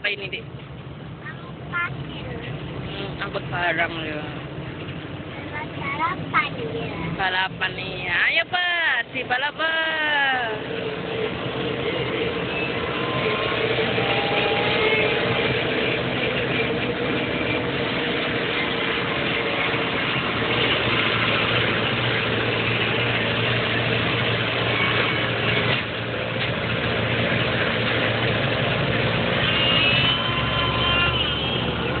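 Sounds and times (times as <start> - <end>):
truck engines on highway: 0.0 - 32.0
tyres running on road: 0.0 - 32.0.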